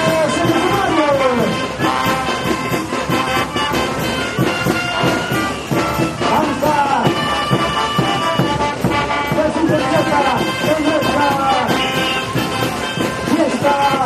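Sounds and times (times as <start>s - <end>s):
brass band playing dance music: 0.0s - 14.0s.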